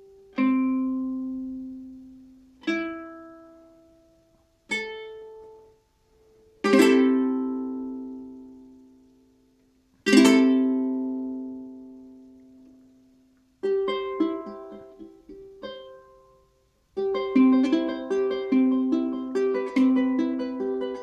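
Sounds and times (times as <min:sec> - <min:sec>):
ukulele chords strummed: 0:00.0 - 0:21.0.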